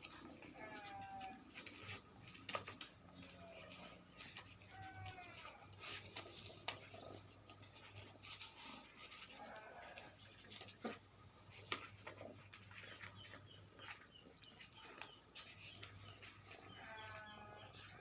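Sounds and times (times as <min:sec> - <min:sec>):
faint animal calls: 0:00.1 - 0:18.0.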